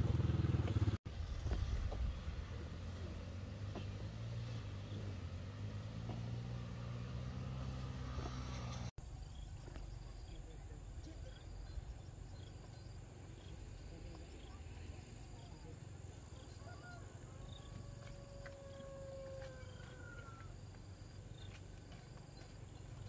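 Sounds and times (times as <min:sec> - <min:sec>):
engine running steadily: 0:00.0 - 0:18.5.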